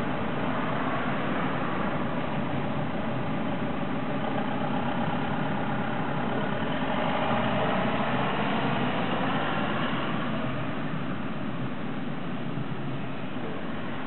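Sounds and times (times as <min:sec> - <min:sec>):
car engine: 0:00.0 - 0:14.0.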